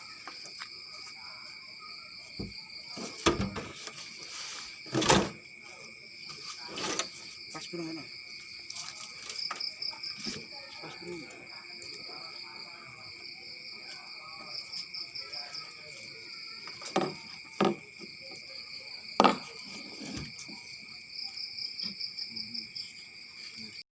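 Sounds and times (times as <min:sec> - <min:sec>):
crickets chirping: 0:00.0 - 0:23.8.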